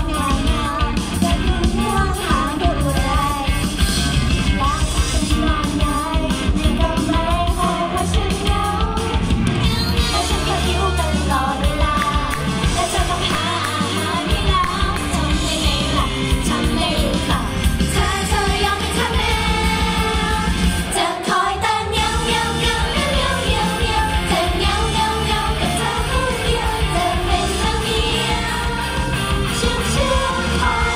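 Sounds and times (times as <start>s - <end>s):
women singing pop song live: 0.0s - 3.8s, 4.4s - 30.9s
pop music over speakers: 0.0s - 30.9s.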